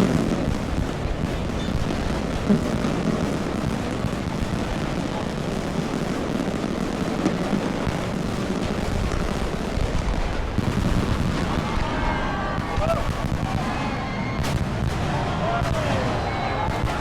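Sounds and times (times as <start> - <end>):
fireworks rumbling: 0.0 - 17.0.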